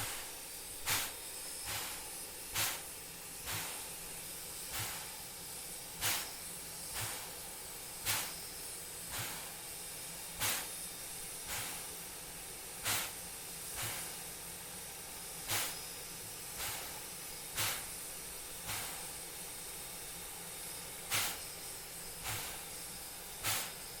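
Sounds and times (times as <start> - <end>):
steam hissing: 0.0 - 24.0
steam locomotive chuffing: 0.0 - 24.0.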